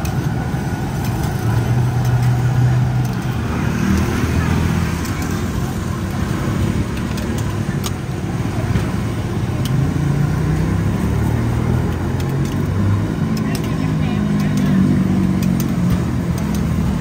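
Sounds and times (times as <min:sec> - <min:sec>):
rumble of passing vehicles: 0:00.0 - 0:17.0
sharp clicks: 0:00.0 - 0:17.0.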